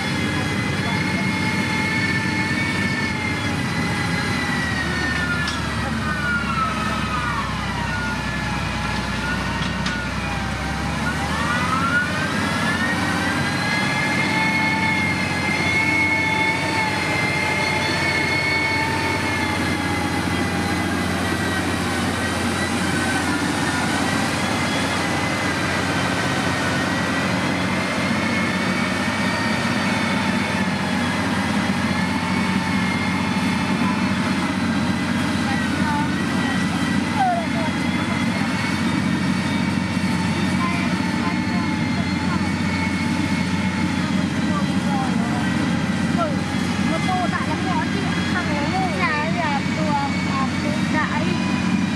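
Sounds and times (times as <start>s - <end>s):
diesel engine working under load: 0.0s - 51.9s.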